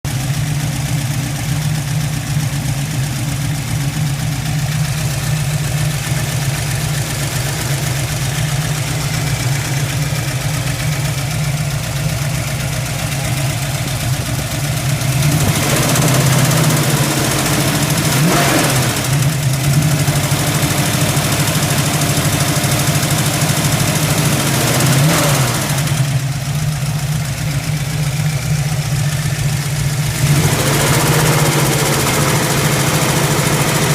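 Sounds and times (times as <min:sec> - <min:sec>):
car engine idling and revving: 0:00.1 - 0:33.9
engine ticking: 0:00.1 - 0:33.9.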